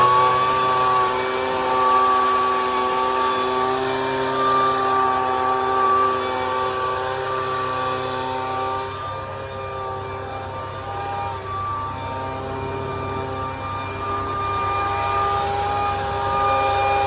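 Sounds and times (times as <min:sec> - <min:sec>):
leaf blower running: 0:00.0 - 0:17.0.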